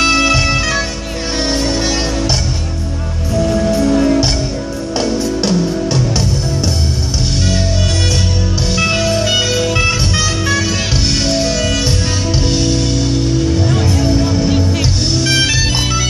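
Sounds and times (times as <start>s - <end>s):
bass line: 0.0s - 16.0s
jazz guitar: 0.0s - 16.0s
smooth jazz band playing: 0.0s - 16.0s.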